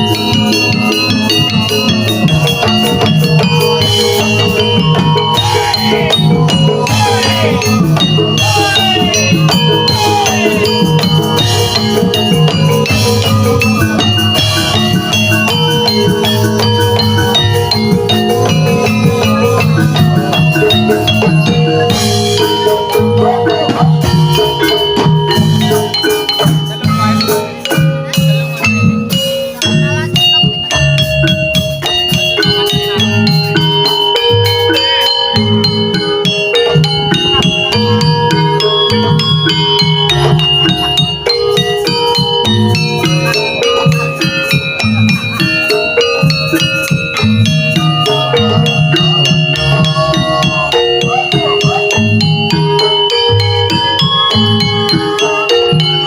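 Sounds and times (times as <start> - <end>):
ringing metallophone notes: 0.0 - 56.0
steady drum beat: 0.0 - 56.0.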